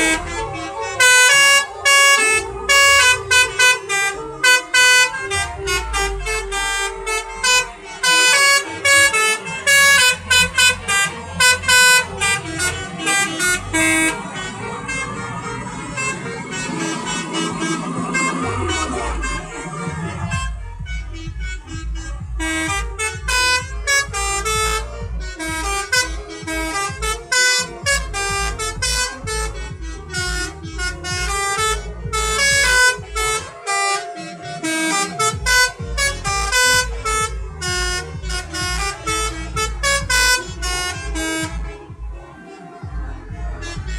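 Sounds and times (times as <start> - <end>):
low rumble: 0.0 - 27.2, 35.4 - 43.9
multi-tone air horn melody: 0.0 - 43.9.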